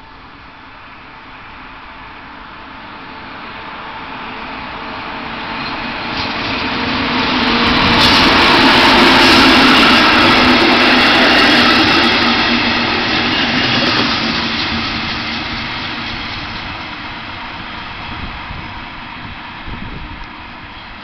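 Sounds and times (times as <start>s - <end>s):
low locomotive hum: 0.0s - 21.0s
train rushing past: 0.0s - 21.0s.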